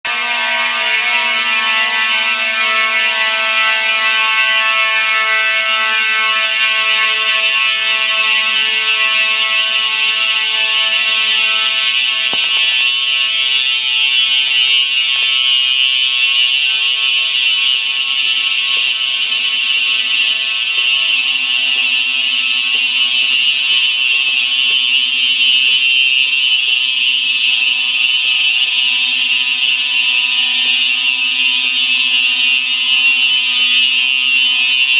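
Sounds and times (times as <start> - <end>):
fire alarm buzzing: 0.1 - 34.9.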